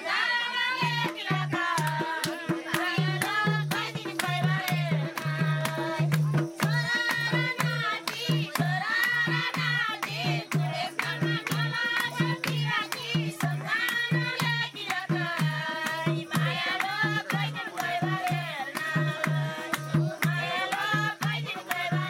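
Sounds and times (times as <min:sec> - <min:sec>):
voices singing folk song: 0:00.0 - 0:22.0
steady drum beat: 0:00.7 - 0:22.0.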